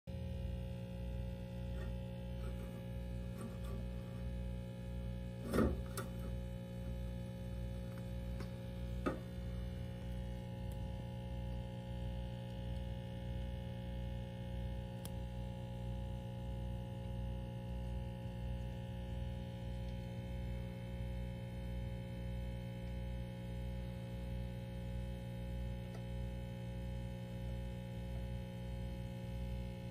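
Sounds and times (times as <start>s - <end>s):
aquarium equipment humming: 0.1s - 29.9s.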